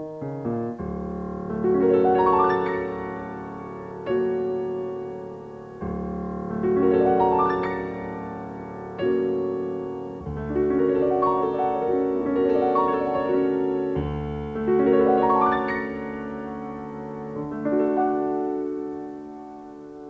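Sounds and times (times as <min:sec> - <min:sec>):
solo piano classical music: 0:00.0 - 0:20.0.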